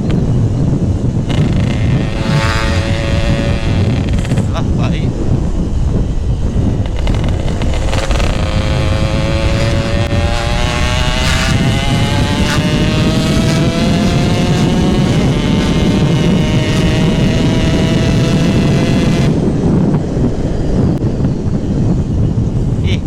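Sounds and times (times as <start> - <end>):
two-stroke motorcycle engine revving: 0.0 - 20.1.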